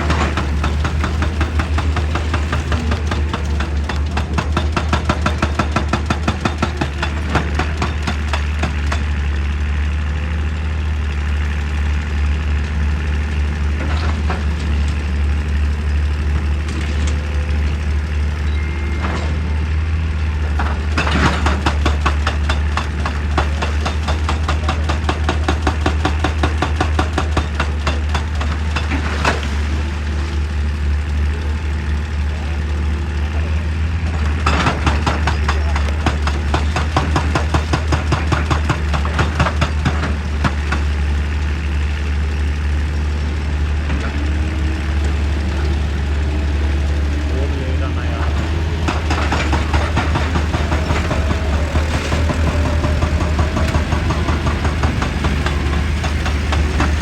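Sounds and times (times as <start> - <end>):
hydraulic rock breaker hammering: 0.0 - 10.9, 12.5 - 57.0
excavator diesel engine running: 0.0 - 57.0.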